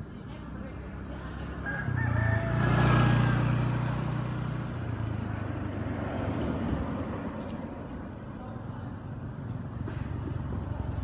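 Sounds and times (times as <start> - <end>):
vehicle engine passing: 0.4 - 11.0.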